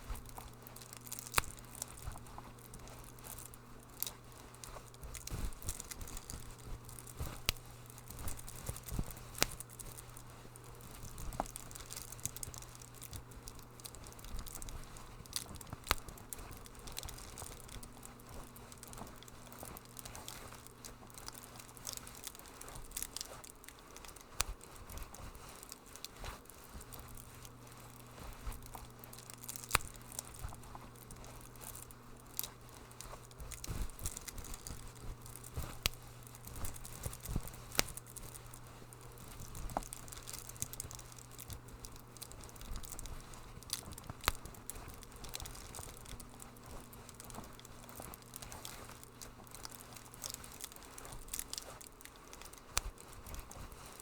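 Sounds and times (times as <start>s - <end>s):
low steady hum: 0.0s - 54.0s
wood fire crackling and popping: 0.0s - 54.0s.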